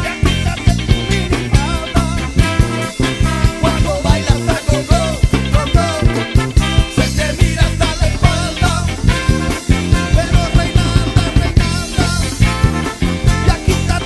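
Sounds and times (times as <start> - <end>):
live ska band playing: 0.0 - 14.0.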